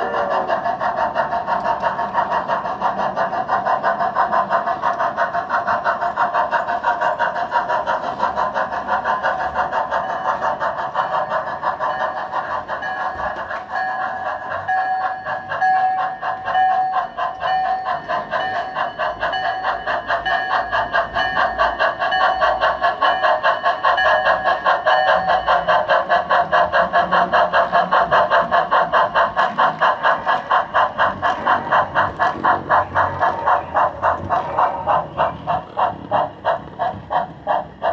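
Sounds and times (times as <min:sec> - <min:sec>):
model steam locomotive chuffing: 0:00.0 - 0:37.9.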